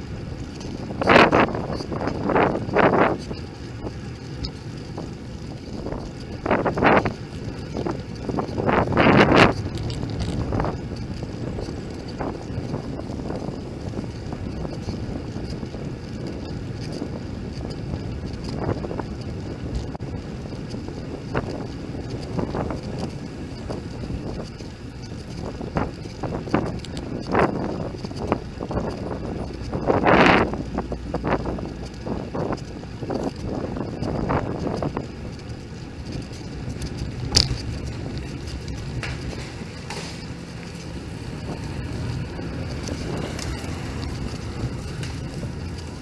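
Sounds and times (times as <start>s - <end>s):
steady low rumble: 0.0s - 46.0s
wind buffeting microphone: 0.0s - 46.0s.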